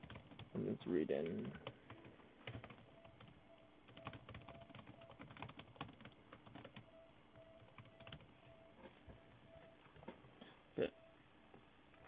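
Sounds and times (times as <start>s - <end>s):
faint keyboard typing: 0.0s - 10.4s.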